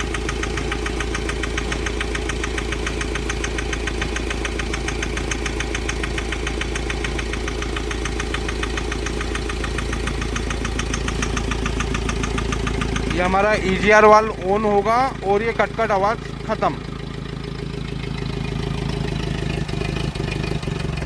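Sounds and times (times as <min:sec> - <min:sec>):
diesel engine idling with knock: 0:00.0 - 0:21.0.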